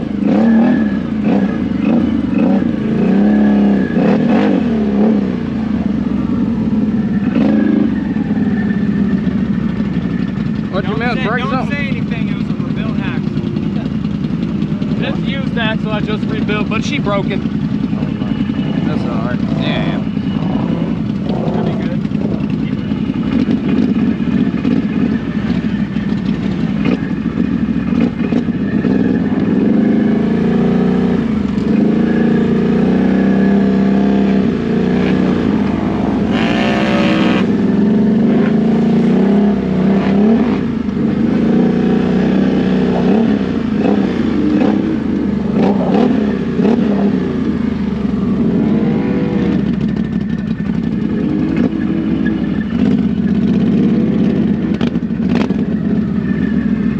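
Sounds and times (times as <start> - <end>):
atv engine revving: 0.0 - 56.9.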